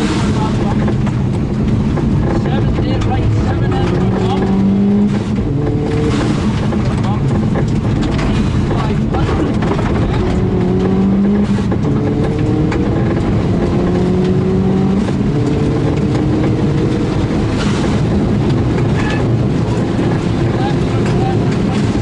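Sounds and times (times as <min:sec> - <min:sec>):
loud road noise: 0:00.0 - 0:22.0
rally car engine revving: 0:00.0 - 0:22.0.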